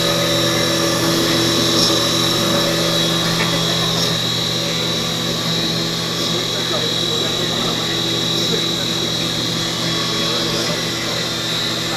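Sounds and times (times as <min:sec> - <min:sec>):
machine hum with high whine: 0:00.0 - 0:11.9.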